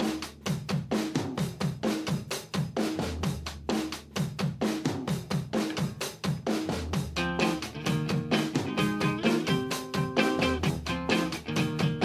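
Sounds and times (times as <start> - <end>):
fast drum-kit groove: 0.0 - 12.0.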